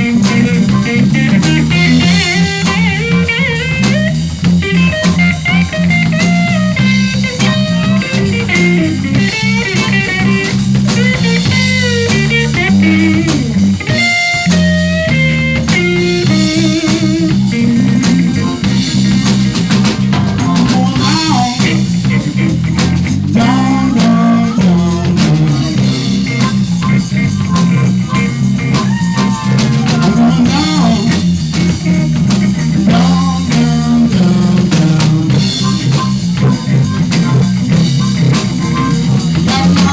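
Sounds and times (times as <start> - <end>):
drum kit: 0.0 - 39.9
lead guitar bending notes: 0.0 - 39.9
walking bass line: 0.0 - 39.9.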